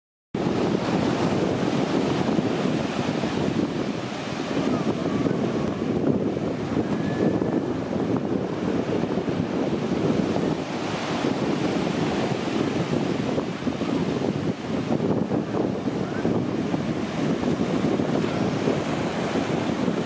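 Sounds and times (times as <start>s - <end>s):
sea surf washing: 0.4s - 20.0s
wind buffeting microphone: 0.4s - 20.0s.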